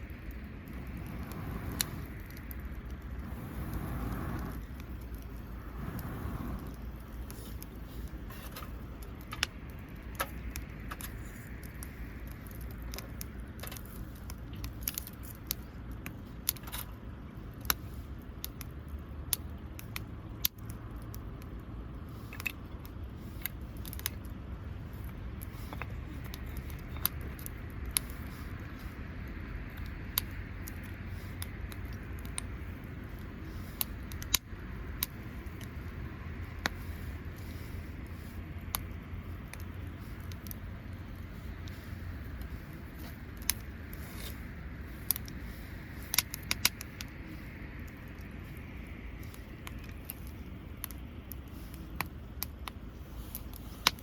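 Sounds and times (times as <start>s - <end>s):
campfire crackling and popping: 0.0s - 54.0s
steady low rumble: 0.0s - 54.0s.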